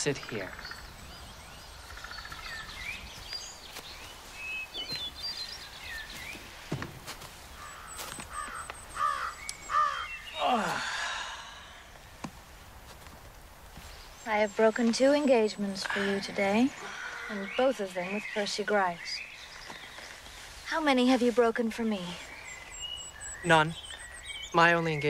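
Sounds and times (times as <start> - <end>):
birds chirping and calling: 0.0 - 25.0.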